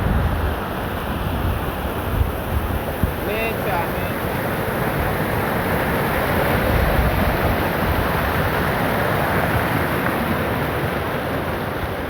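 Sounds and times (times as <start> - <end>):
floodwater rushing in a river: 0.0 - 12.0
wind buffeting microphone: 0.0 - 12.0.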